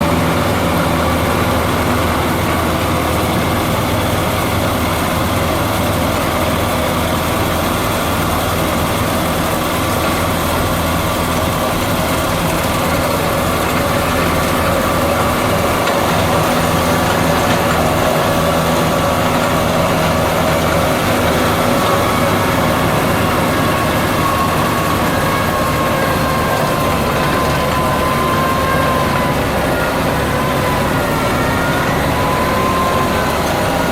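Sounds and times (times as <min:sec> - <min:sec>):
baler whine: 0:00.0 - 0:33.9
tractor engine running: 0:00.0 - 0:33.9.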